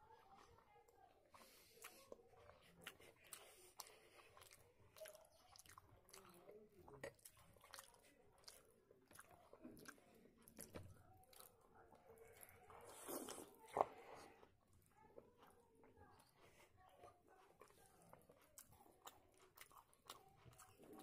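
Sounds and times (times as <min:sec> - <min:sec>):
person chewing: 0:00.1 - 0:21.0.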